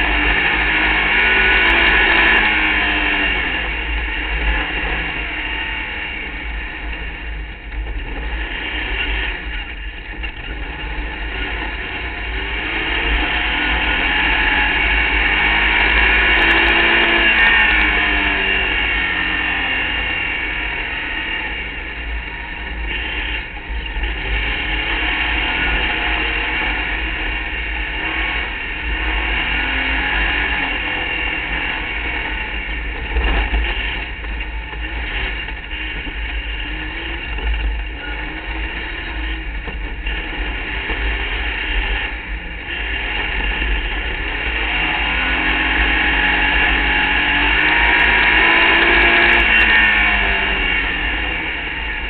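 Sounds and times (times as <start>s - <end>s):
race car engine at high revs: 0.0s - 52.0s
rumble of wind and gravel: 0.0s - 52.0s.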